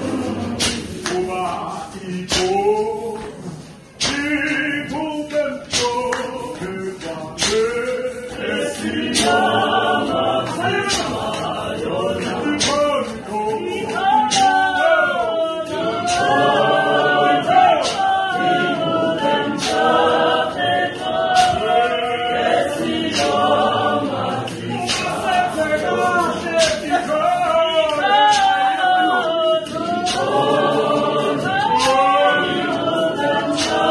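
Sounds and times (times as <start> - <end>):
congregation singing a hymn: 0.0 - 33.9
sharp percussive hits: 0.0 - 33.9.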